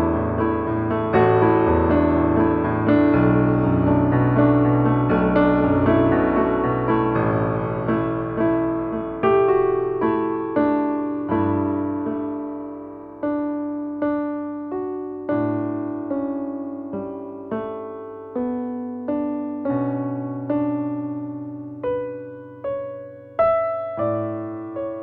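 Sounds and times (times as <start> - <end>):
slow solo piano: 0.0 - 25.0.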